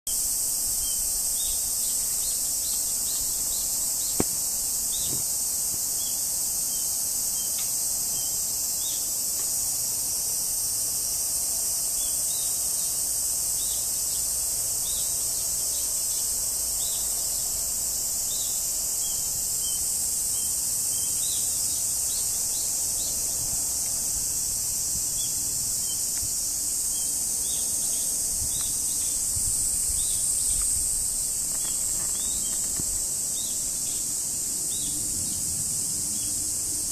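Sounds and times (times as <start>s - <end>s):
insects droning: 0.1s - 36.9s.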